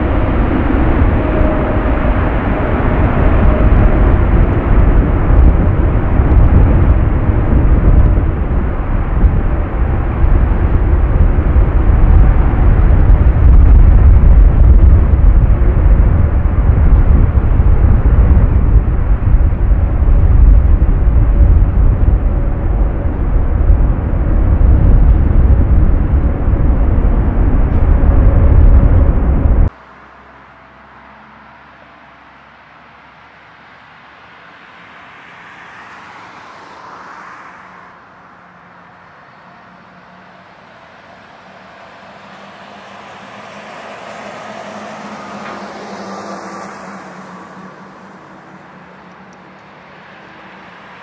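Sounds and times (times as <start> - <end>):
jet engines running loud: 0.0 - 30.6, 34.0 - 51.0.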